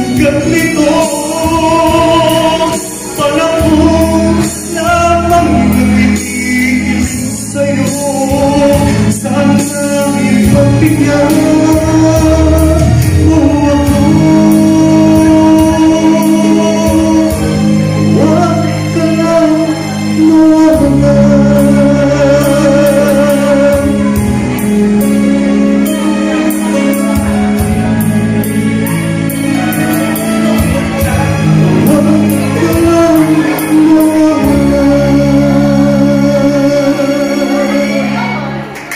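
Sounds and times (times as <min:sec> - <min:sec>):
man singing into a microphone: 0:00.0 - 0:38.8
instrumental accompaniment: 0:00.0 - 0:38.9.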